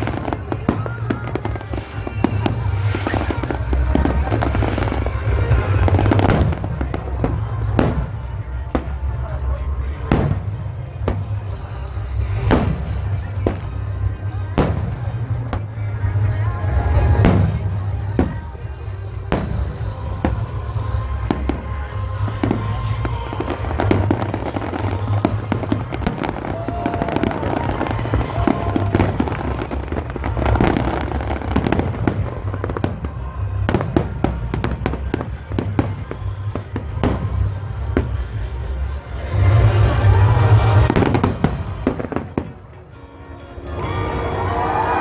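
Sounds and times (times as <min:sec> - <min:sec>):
fireworks cracks and bangs: 0:00.0 - 0:42.9.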